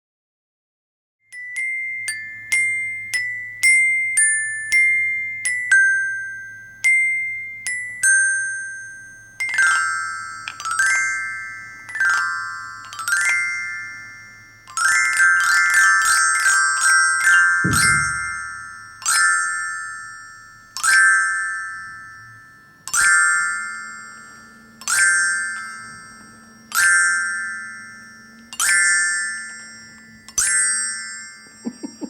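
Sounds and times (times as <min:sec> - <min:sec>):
glockenspiel melody: 0:01.3 - 0:32.0.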